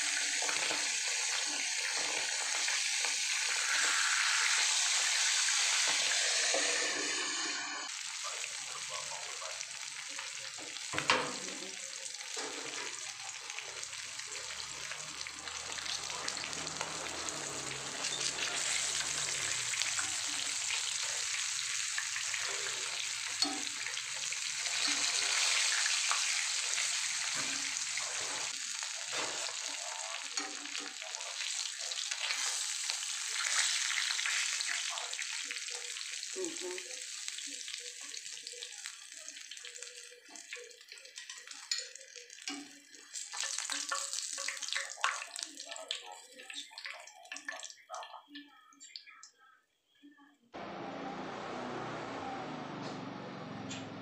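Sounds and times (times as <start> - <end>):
fish frying in oil: 0.0 - 7.0, 7.9 - 49.1.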